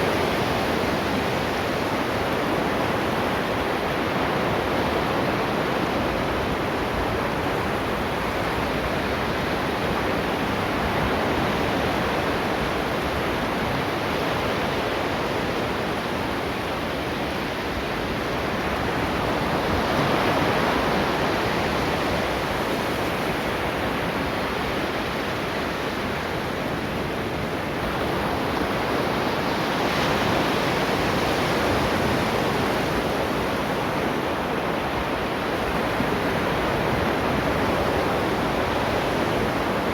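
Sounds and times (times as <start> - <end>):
ocean waves washing ashore: 0.0 - 39.9.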